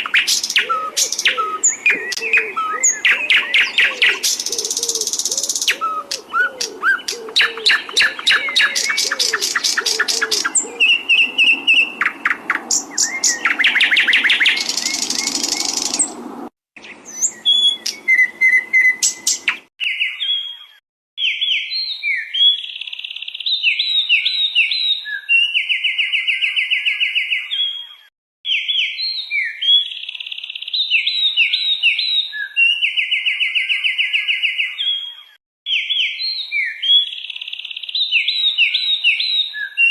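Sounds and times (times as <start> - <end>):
songbird song: 0.0 - 39.9.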